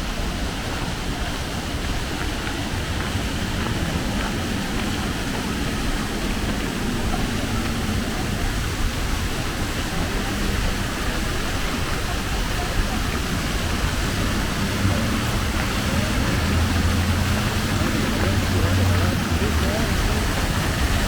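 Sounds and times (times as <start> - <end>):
city background rushing and rumble: 0.0 - 21.0.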